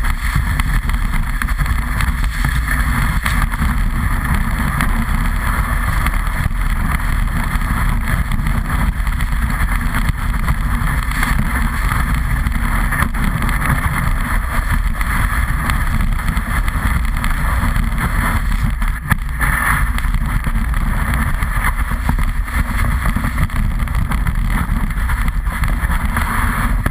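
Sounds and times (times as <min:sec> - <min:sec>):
snowboard sliding over snow: 0:00.0 - 0:26.9
wind rushing on microphone: 0:00.0 - 0:26.9.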